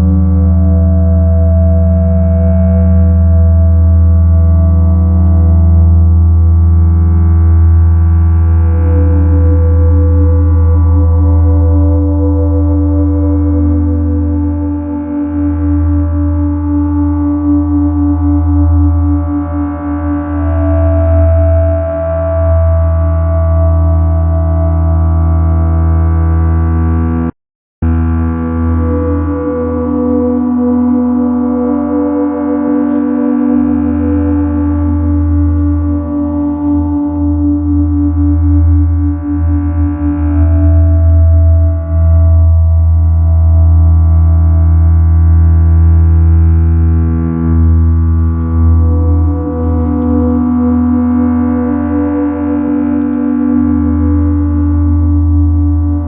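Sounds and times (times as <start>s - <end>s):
synthesizer drone: 0.0s - 56.0s
pulsing middle tone: 8.0s - 26.0s, 27.8s - 56.0s.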